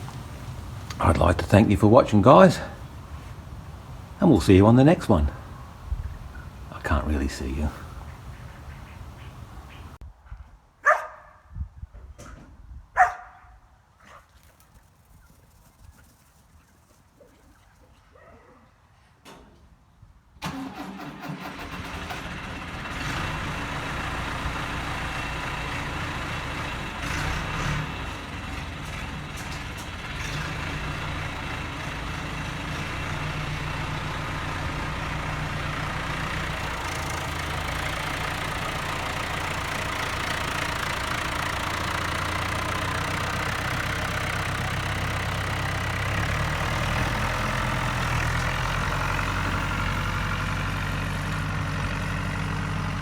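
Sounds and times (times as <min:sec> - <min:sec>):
vehicle engine idling: 0:00.0 - 0:10.0, 0:20.5 - 0:53.0.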